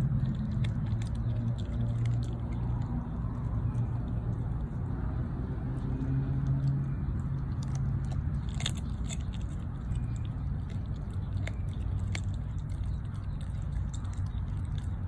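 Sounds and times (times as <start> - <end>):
dog chewing bone: 0.0 - 15.0.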